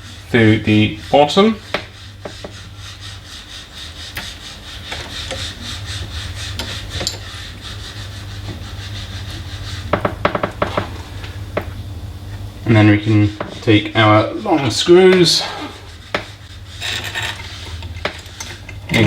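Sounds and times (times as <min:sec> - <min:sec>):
rubbing and scraping: 0:00.0 - 0:11.4, 0:12.7 - 0:19.0.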